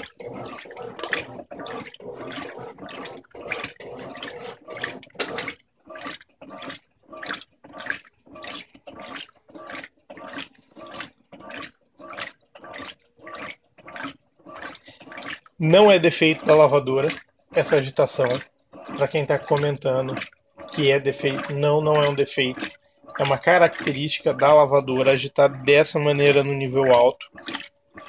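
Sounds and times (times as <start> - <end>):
washing machine water sloshing: 0.0 - 28.0.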